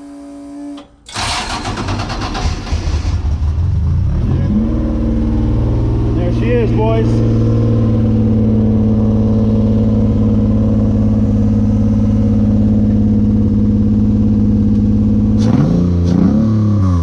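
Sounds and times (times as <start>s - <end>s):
car engine idling: 0.8s - 15.4s.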